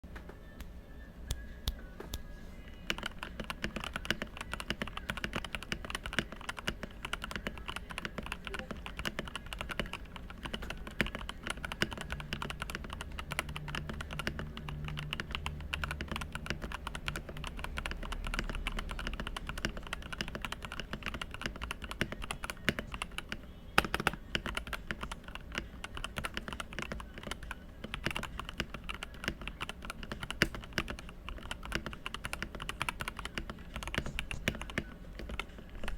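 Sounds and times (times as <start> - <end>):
mechanical keyboard typing: 2.8 - 35.9.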